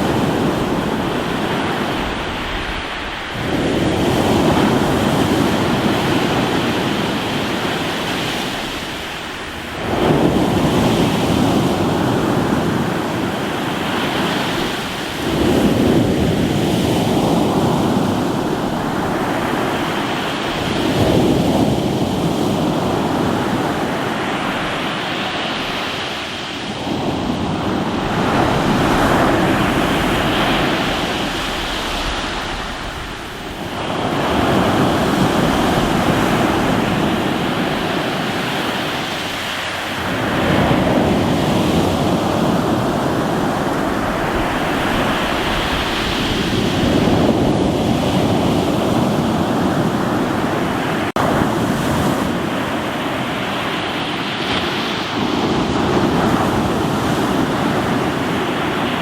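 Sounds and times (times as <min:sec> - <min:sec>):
waves breaking on rocky shore: 0:00.0 - 0:59.0.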